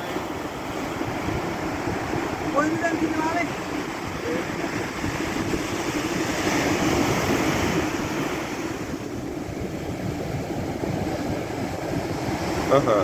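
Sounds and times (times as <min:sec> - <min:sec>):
ocean waves breaking: 0:00.0 - 0:13.0
water washing over shallows: 0:00.0 - 0:13.0.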